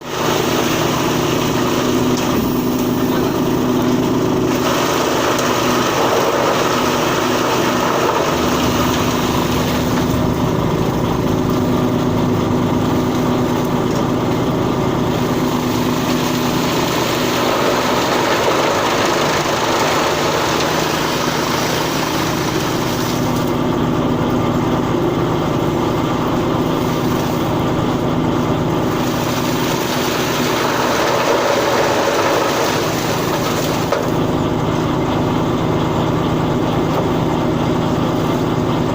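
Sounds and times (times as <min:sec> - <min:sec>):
baler machine hum: 0:00.0 - 0:38.9.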